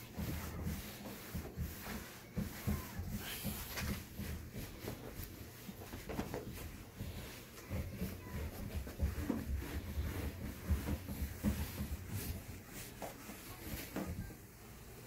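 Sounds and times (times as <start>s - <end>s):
cloth rubbing on car paint: 0.0s - 15.0s.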